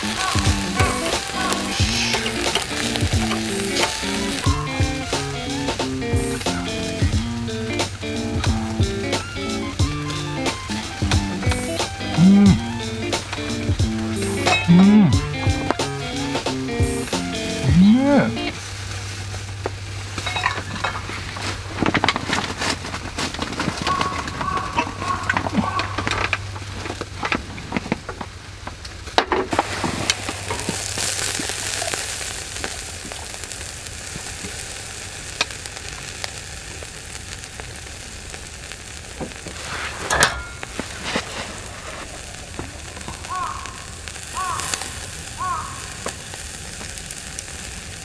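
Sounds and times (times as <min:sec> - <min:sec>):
beer foam fizzing: 0:00.0 - 0:24.4, 0:25.0 - 0:48.0
meat sizzling on grill: 0:00.0 - 0:48.0.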